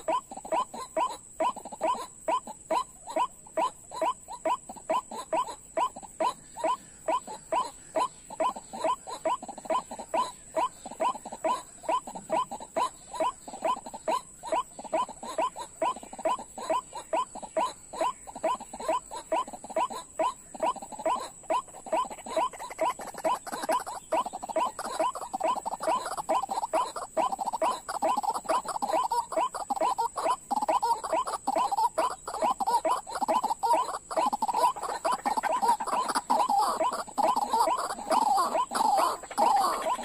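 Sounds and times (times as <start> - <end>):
bird calling kwak notes: 0.0 - 40.0.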